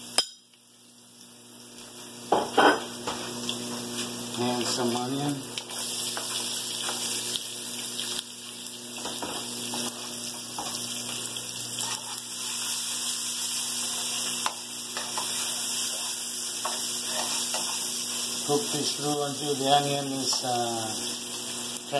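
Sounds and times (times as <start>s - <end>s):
vegetables sizzling in hot oil: 0.0s - 21.9s.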